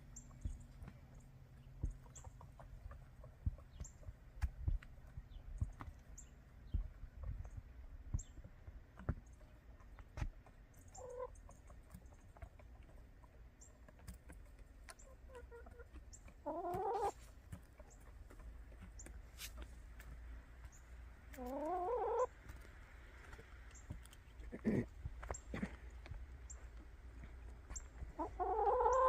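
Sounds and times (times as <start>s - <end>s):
hens clucking: 0.0s - 29.0s.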